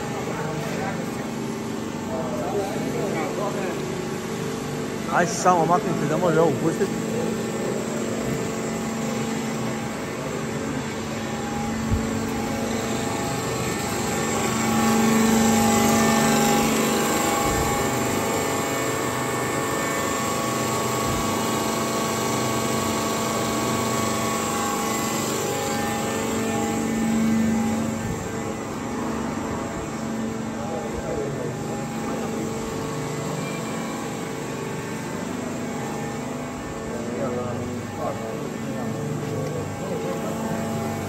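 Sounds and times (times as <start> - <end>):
hydraulic pump motor humming: 0.0 - 41.0.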